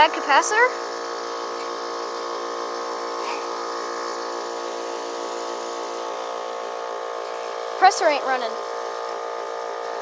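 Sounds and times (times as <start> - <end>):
air conditioner electrical buzz: 0.0 - 10.0.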